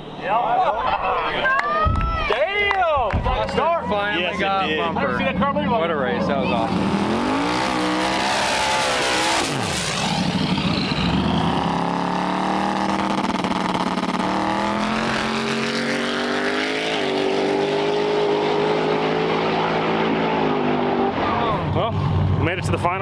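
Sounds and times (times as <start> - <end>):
race car engines: 2.7 - 23.0.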